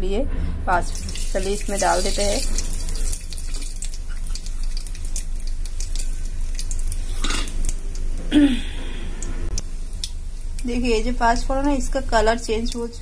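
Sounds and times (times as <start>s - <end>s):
hot oil sizzling and popping: 0.8s - 8.2s, 9.5s - 13.0s
spices hitting hot oil: 0.8s - 8.2s, 9.6s - 13.0s.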